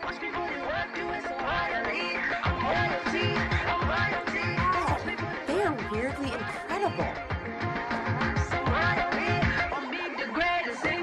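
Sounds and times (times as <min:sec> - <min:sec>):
upbeat dance song: 0:00.0 - 0:11.0.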